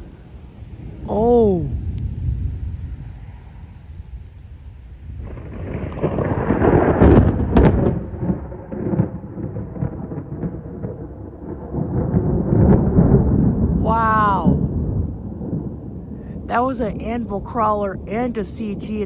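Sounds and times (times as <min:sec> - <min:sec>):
thunder cracks: 0:00.0 - 0:19.0
thunder rumble: 0:00.0 - 0:19.0.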